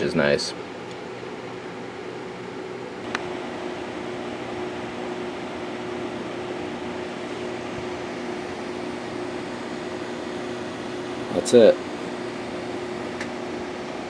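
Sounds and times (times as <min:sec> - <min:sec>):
fan-like hum and hiss: 0:00.0 - 0:14.0.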